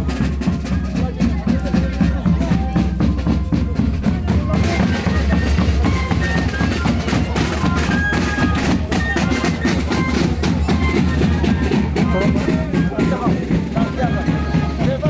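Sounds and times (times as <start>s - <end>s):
heavy bass drum beat: 0.0s - 15.0s
live band music: 0.0s - 15.0s.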